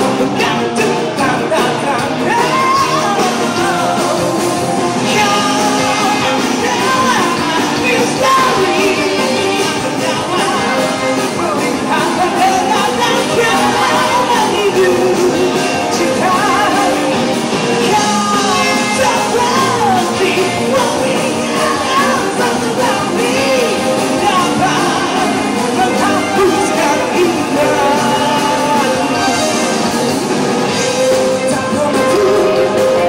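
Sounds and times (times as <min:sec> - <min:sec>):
rock song with singer: 0:00.0 - 0:33.0.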